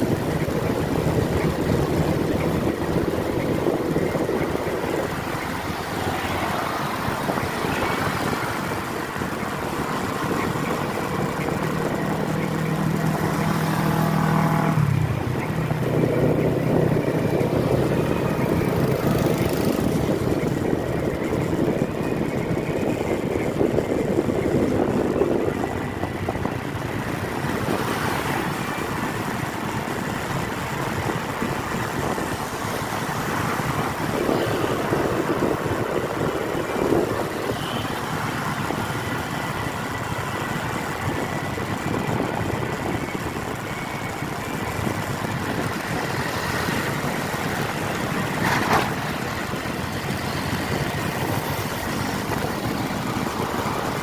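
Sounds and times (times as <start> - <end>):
road noise: 0.0 - 54.0
vehicle engines running: 0.0 - 54.0.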